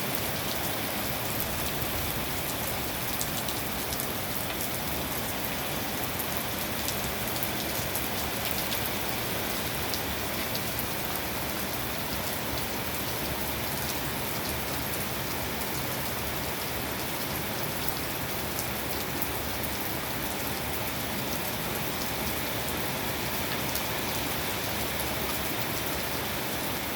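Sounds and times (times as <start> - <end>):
rain falling: 0.0 - 26.9
raindrops ticking on surfaces: 0.1 - 26.9.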